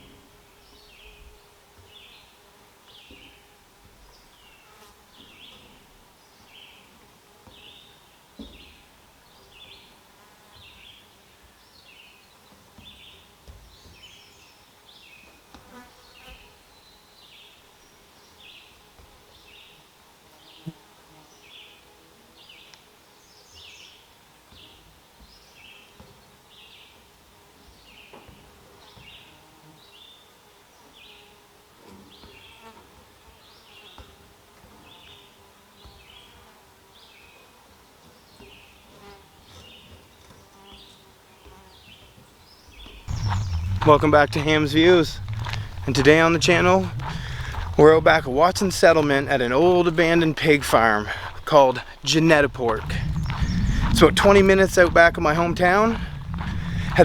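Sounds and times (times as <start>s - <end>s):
faint outdoor ambience: 0.0s - 57.0s.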